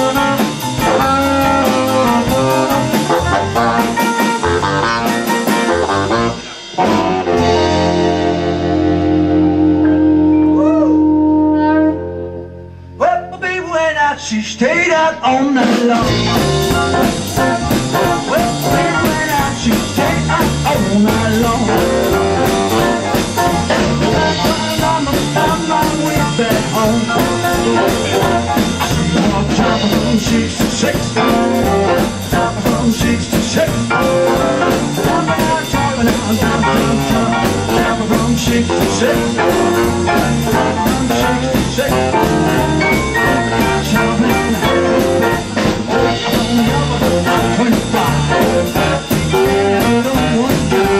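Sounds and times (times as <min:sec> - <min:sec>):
jump blues band playing live: 0:00.0 - 0:50.9.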